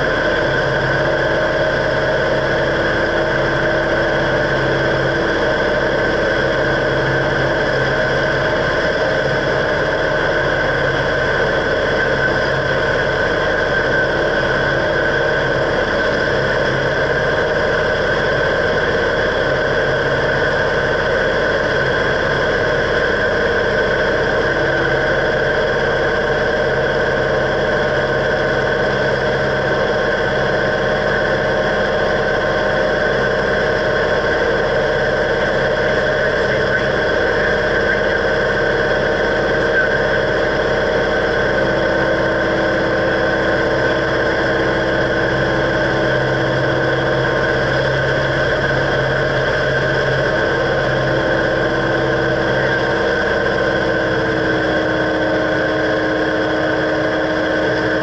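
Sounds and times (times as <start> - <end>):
airplane engine drone in cabin: 0.0 - 58.0.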